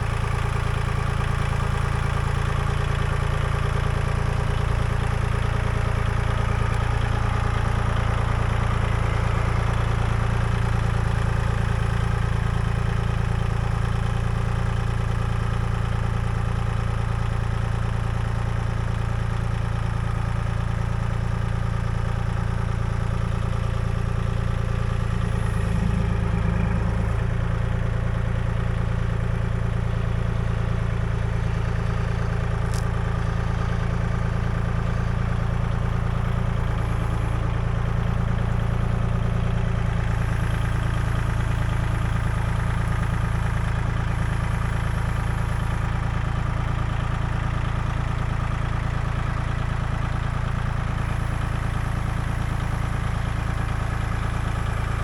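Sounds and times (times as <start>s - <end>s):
engine droning steadily: 0.0s - 55.0s.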